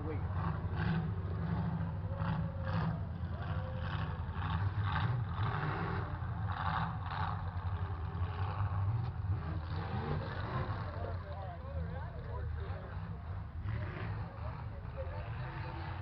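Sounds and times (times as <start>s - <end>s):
truck engines rumbling: 0.0s - 16.0s.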